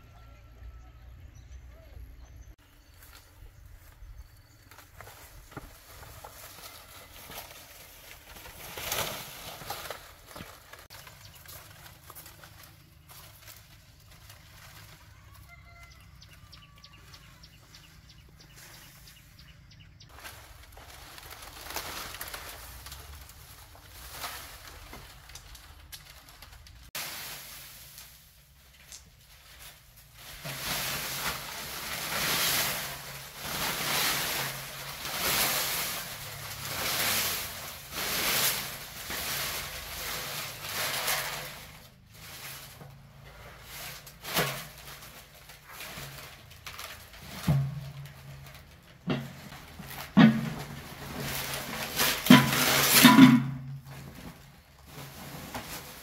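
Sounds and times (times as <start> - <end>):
palm fronds scraping in pipe: 4.2 - 56.0.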